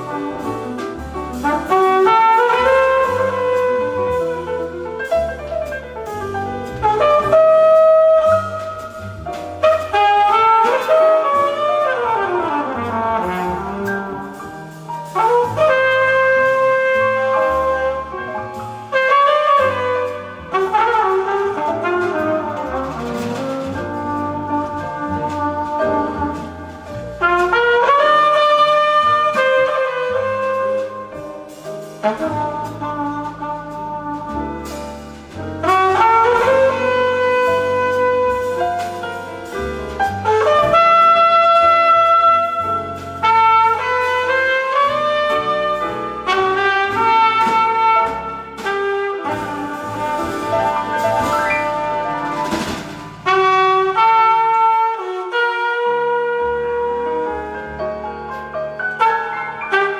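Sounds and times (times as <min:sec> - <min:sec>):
flugelhorn melody: 0:00.0 - 0:59.9
jazz ballad: 0:00.0 - 0:59.9.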